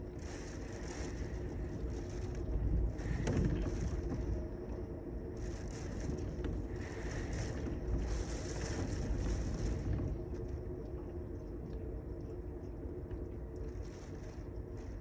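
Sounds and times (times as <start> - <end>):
low rumble: 0.0 - 15.0
steady rain hiss: 0.0 - 15.0.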